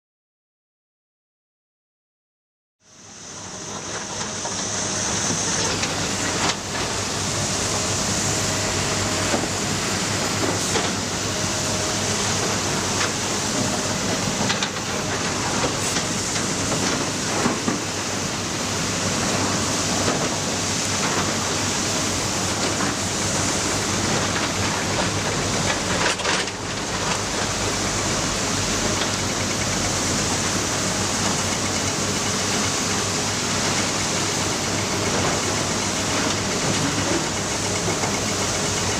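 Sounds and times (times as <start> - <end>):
excavator engine drone: 2.9 - 38.9.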